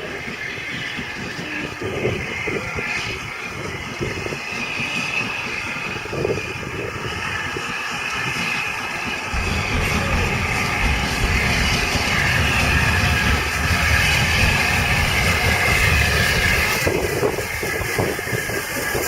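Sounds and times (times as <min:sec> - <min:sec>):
steam train hissing and rumbling: 0:00.0 - 0:19.0
deep rumble: 0:00.9 - 0:19.0.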